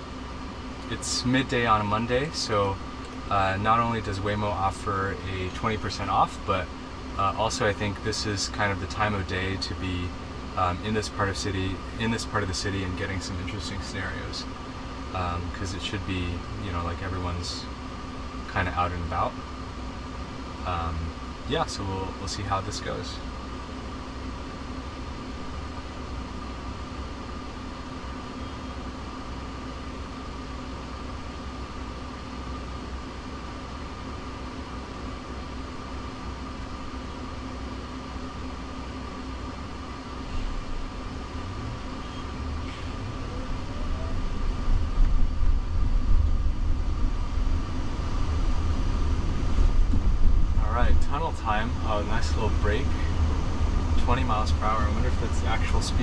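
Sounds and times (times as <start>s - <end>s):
car cabin hum: 0.0s - 56.0s
faint rising whine: 0.0s - 56.0s
low road rumble: 0.0s - 56.0s.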